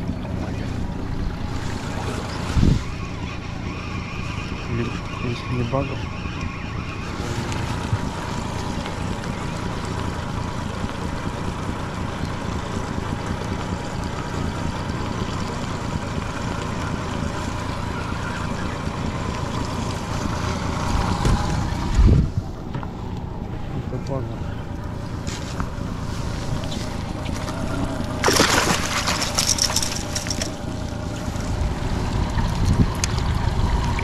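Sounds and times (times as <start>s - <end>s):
outboard motor running: 0.0s - 34.0s
water and wind noise: 0.0s - 34.0s.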